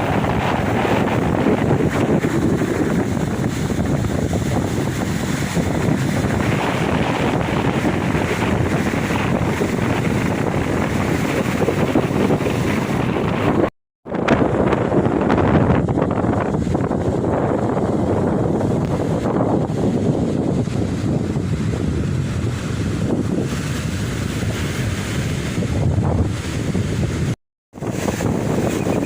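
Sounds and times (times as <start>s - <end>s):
ocean waves washing onto beach: 0.0s - 29.0s
wind buffeting microphone: 0.0s - 29.0s.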